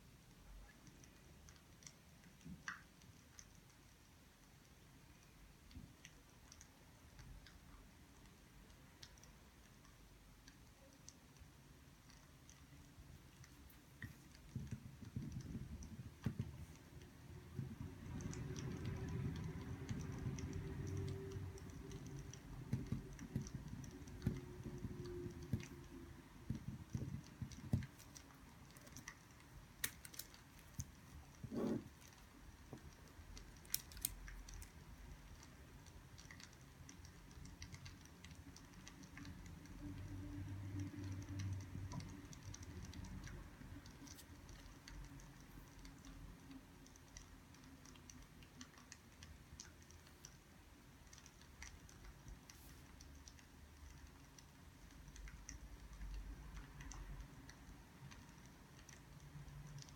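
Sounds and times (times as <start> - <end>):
light clicks and taps: 0.2 - 59.9.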